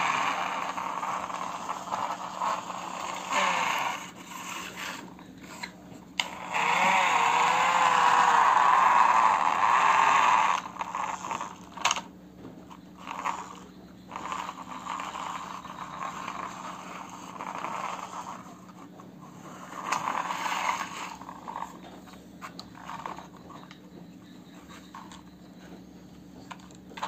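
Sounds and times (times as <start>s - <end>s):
plastic tracks scraping and rattling: 0.0s - 12.1s, 12.7s - 25.8s
toy excavator grinding whir: 0.0s - 27.0s.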